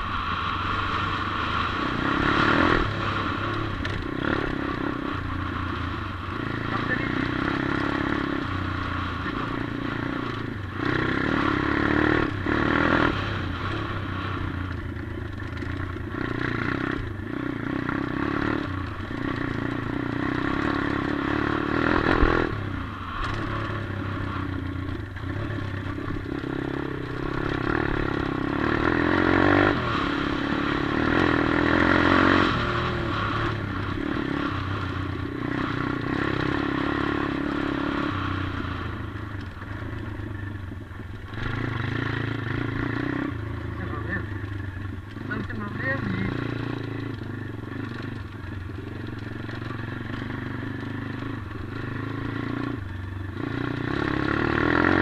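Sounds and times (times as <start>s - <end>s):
dirt bike engine revving: 0.0s - 40.2s, 41.1s - 55.0s.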